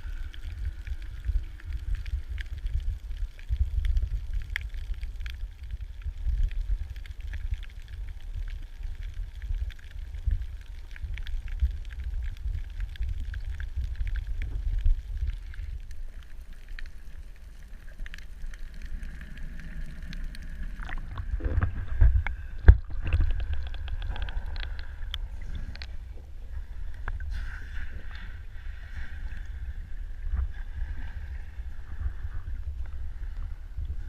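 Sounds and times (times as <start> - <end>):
bubbling and crackling clicks: 0.0 - 34.0
low underwater rumble: 0.0 - 34.0.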